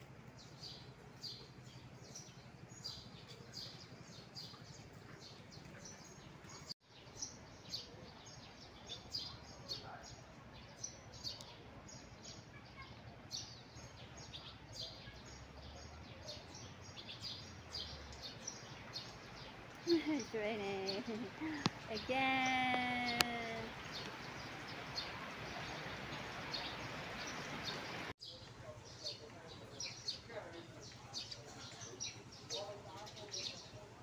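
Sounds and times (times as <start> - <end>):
small birds chirping: 0.2 - 34.0.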